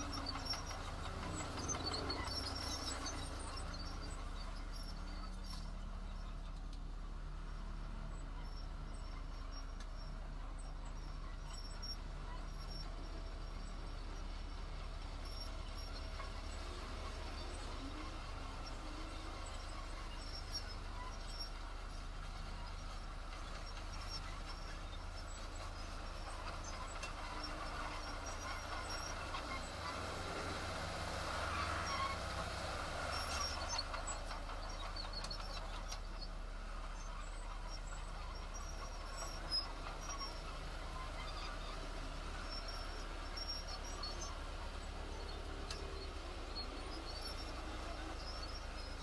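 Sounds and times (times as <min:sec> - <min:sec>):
diesel machinery running: 0:00.0 - 0:49.0.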